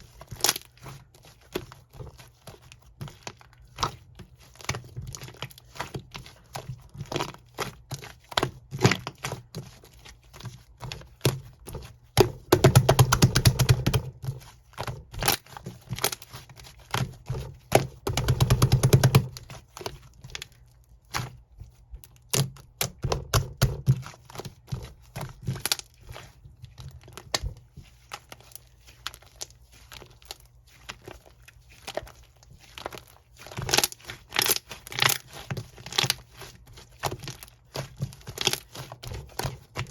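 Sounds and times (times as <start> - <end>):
fast crackling of slime: 0.0 - 39.9.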